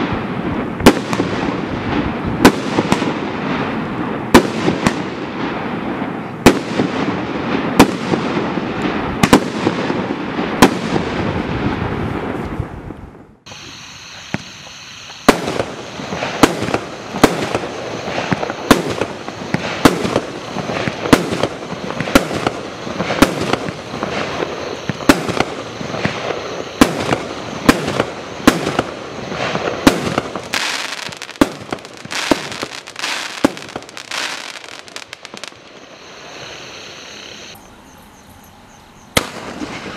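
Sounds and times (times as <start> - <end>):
firework shots: 0.0 - 12.9, 13.5 - 37.6, 39.1 - 39.9
haze of firework noise: 0.0 - 37.6, 39.1 - 39.9.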